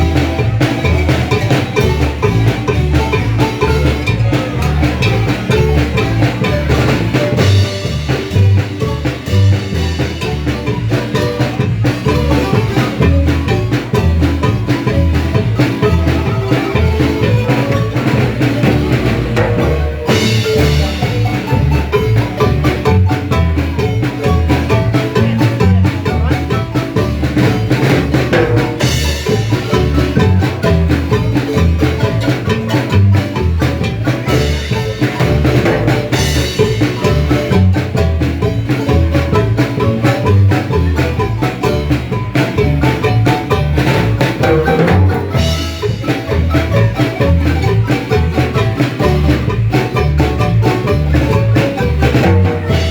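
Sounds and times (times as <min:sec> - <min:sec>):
drums steady low beat: 0:00.0 - 0:52.9
marimba dance music: 0:00.0 - 0:52.9.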